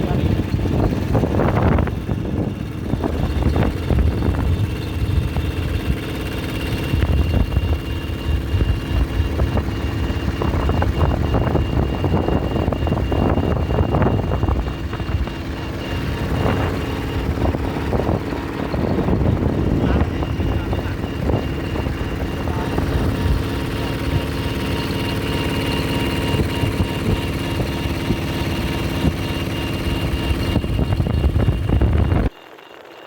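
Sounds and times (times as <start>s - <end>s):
bulldozer diesel engine rumbling: 0.0s - 32.4s.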